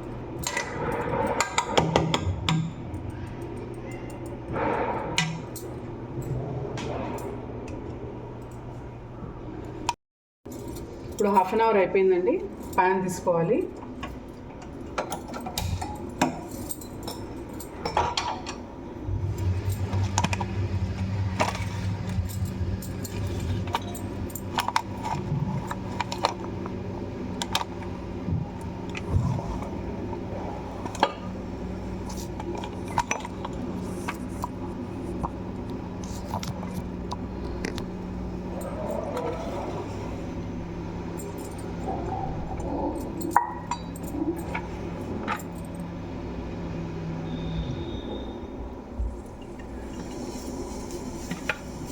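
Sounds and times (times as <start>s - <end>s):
low appliance hum: 0.0s - 51.9s.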